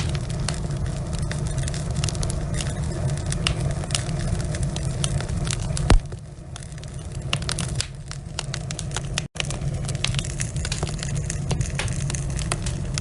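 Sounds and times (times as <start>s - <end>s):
fire low rumble: 0.0s - 13.0s
logs crackling in fireplace: 0.0s - 13.0s.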